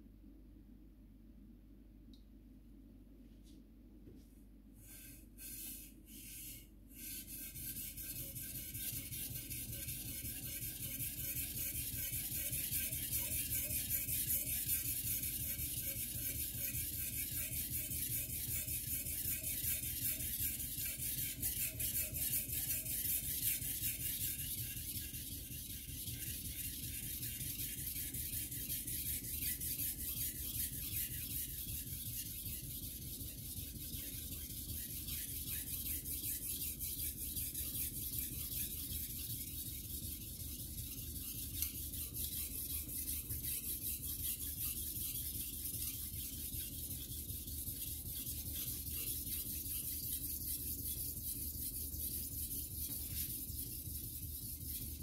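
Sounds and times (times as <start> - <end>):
knife scraping on whetstone: 4.9 - 55.0.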